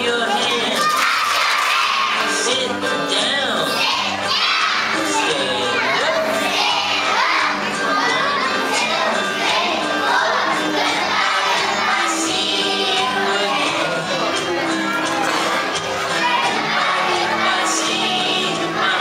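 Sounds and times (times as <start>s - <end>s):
children shouting and cheering: 0.0s - 19.0s.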